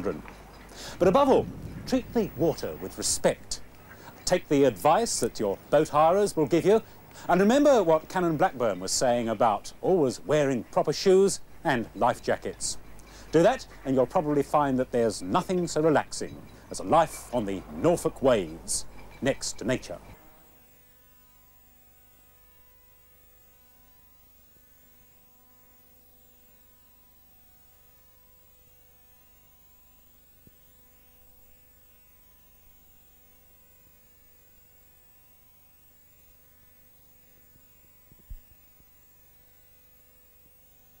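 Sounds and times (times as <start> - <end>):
faint electrical buzz: 0.0 - 41.0.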